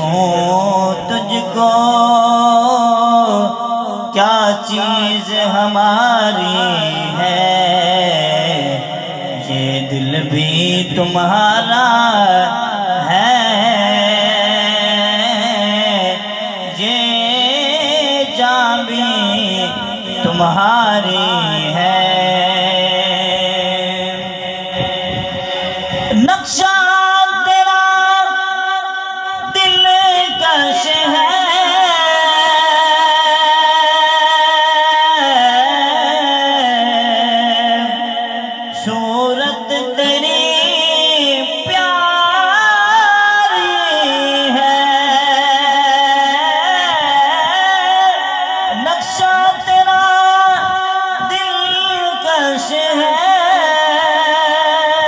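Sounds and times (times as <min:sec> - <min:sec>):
man singing over pa system: 0:00.0 - 0:55.0.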